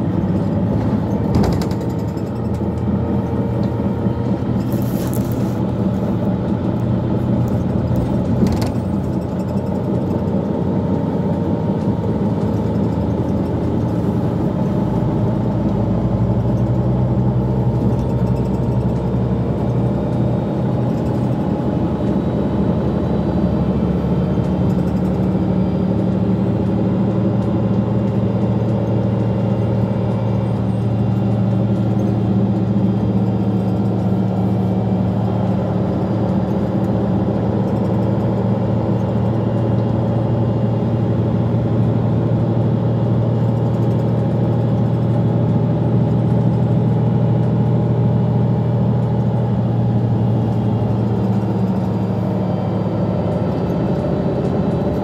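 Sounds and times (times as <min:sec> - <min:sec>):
bus engine hum: 0:00.0 - 0:55.0
road and tyre noise: 0:00.0 - 0:55.0.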